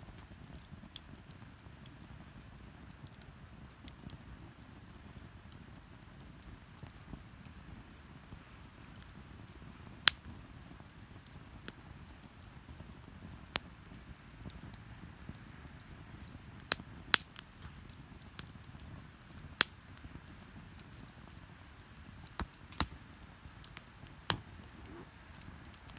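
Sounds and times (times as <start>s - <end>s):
bonfire crackling and popping: 0.0s - 25.9s.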